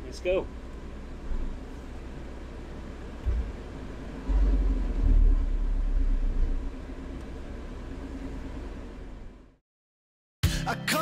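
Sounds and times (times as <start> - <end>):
air conditioner hum: 0.0 - 9.5
engine and road rumble: 0.0 - 9.6.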